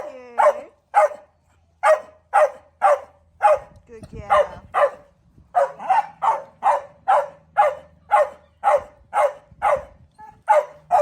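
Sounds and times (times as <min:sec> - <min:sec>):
small dog barking: 0:00.0 - 0:11.0.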